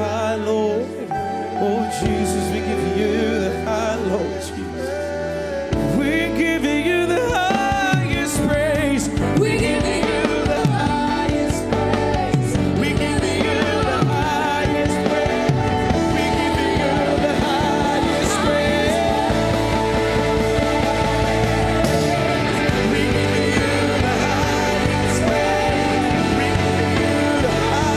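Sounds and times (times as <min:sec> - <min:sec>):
drums: 0:00.0 - 0:27.9
live rock band playing: 0:00.0 - 0:27.9.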